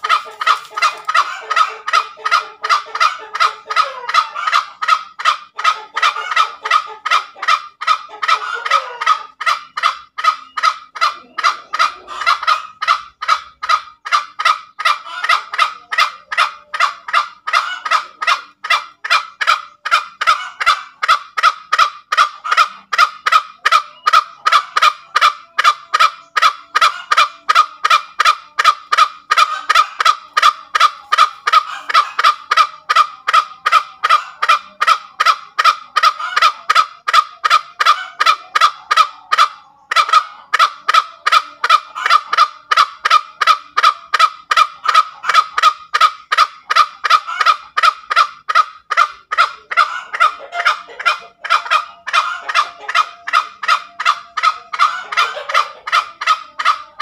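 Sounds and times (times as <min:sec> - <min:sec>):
junglefowl cackling: 0:00.0 - 0:57.0.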